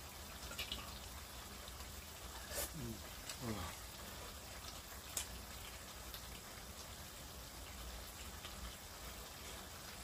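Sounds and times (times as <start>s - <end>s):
broth simmering hiss: 0.0s - 10.0s
bubbling crackles: 0.0s - 10.0s.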